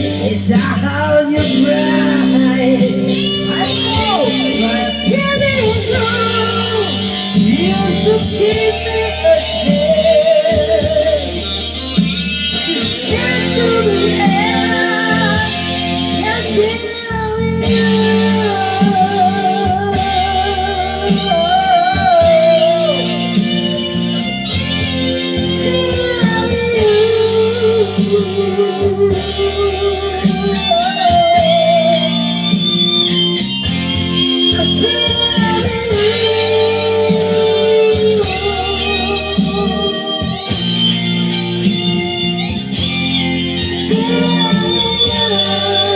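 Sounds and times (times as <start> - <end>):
guitar pop ballad: 0.0 - 45.9.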